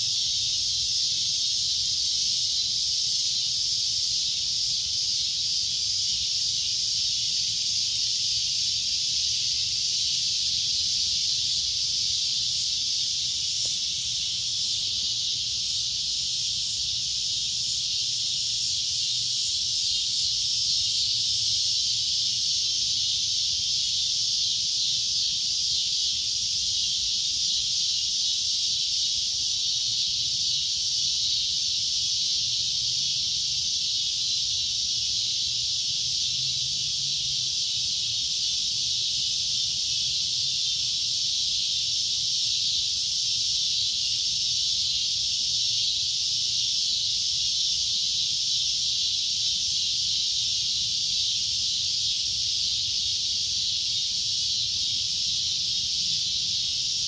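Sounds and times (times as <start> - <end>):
cicadas droning: 0.0 - 57.0.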